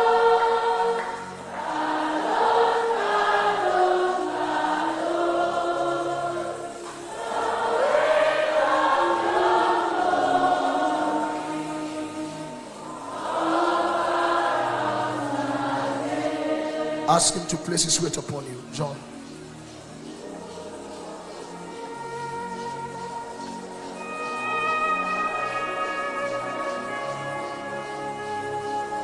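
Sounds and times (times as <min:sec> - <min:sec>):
group singing worship chorus: 0:00.0 - 0:29.0.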